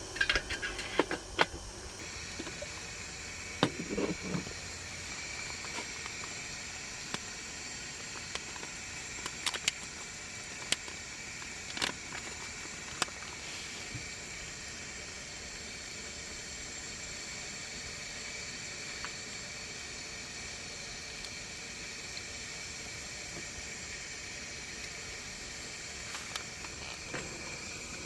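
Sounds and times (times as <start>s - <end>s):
gas stove hissing: 0.0s - 28.0s.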